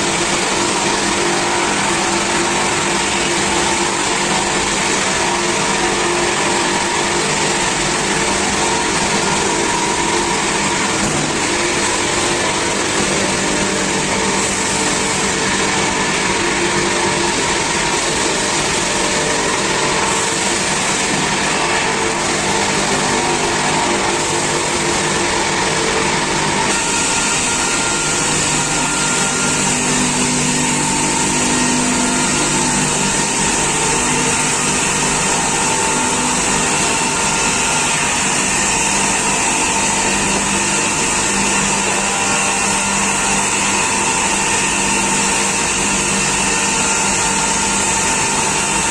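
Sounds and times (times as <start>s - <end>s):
circular saws running: 0.0s - 48.9s.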